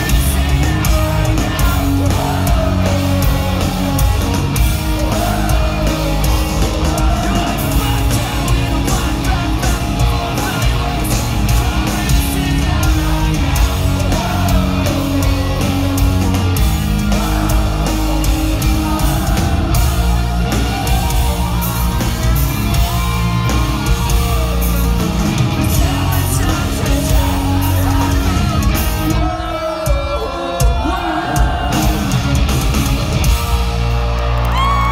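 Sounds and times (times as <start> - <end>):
live rock band playing: 0.0 - 34.9.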